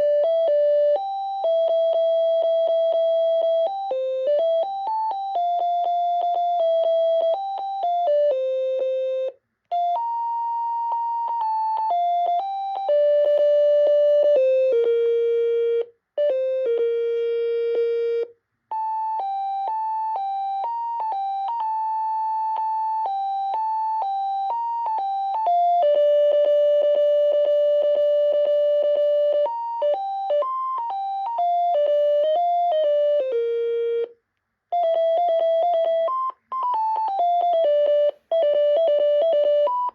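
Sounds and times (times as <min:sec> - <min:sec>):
phone ringtone beeping melodies: 0:00.0 - 0:39.9.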